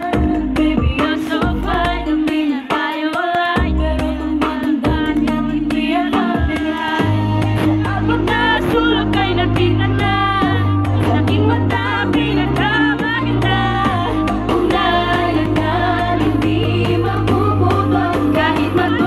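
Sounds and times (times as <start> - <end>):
pop backing track with beat: 0.0 - 19.0
women singing: 0.0 - 19.0
heavy bass line: 3.6 - 19.0.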